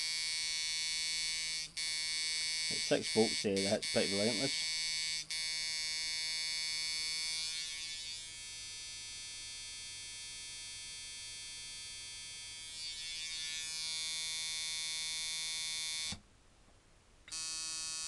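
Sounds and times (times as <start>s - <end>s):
tattoo machine electric buzz: 0.0s - 16.2s, 17.3s - 18.0s.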